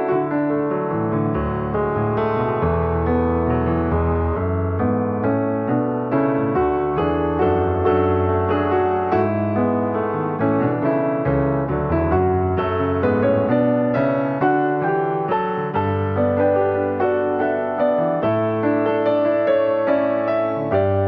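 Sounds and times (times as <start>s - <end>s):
slow gentle piano melody: 0.0s - 21.0s.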